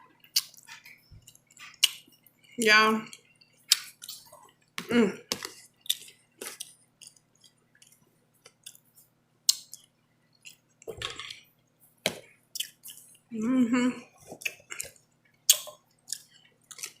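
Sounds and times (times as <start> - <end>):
person chewing and lip smacking: 0.2 - 11.5, 12.5 - 13.3, 14.2 - 17.0.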